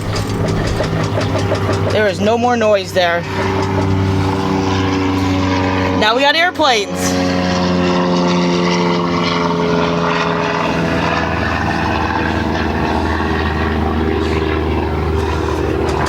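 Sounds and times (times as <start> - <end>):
propeller airplane flying over: 0.0 - 16.0.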